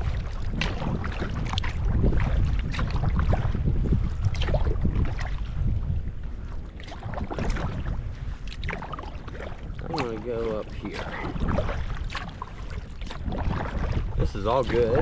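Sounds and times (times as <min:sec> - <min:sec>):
kayak paddle splashing water: 0:00.0 - 0:15.0
wind rumbling on microphone: 0:00.0 - 0:15.0.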